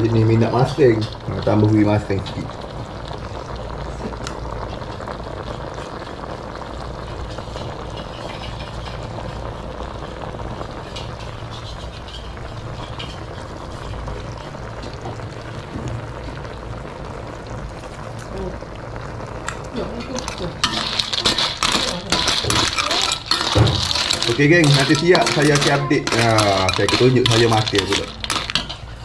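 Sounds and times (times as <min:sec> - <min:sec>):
gravy bubbling in a wok: 0:00.0 - 0:29.0.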